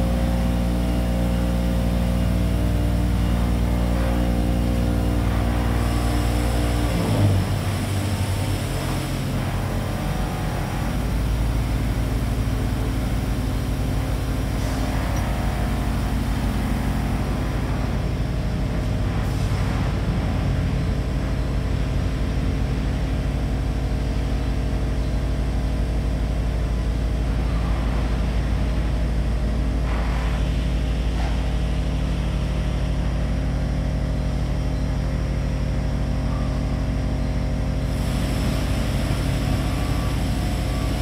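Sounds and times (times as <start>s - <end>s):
machine motors humming: 0.0s - 41.0s.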